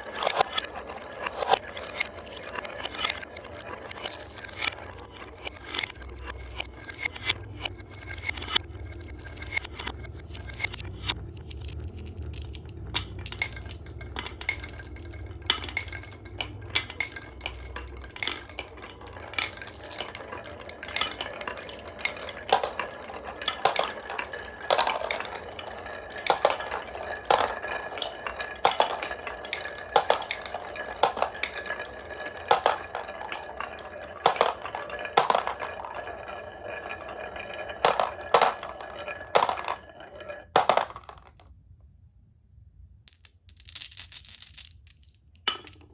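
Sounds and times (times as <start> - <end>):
marbles clattering on wooden track: 0.0 - 41.5, 43.1 - 45.9
marbles rolling hum: 0.0 - 41.5, 43.1 - 45.9.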